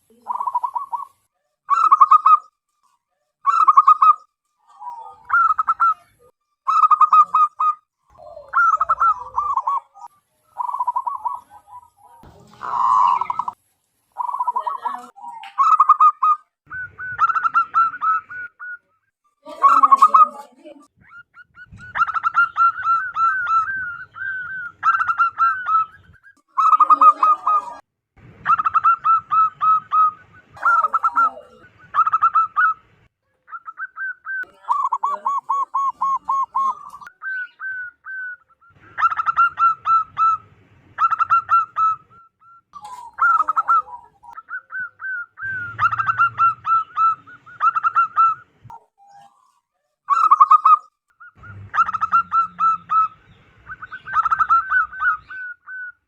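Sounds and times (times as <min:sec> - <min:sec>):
dove cooing: 0:00.1 - 0:02.5, 0:03.4 - 0:13.6, 0:14.2 - 0:27.8, 0:28.4 - 0:56.0.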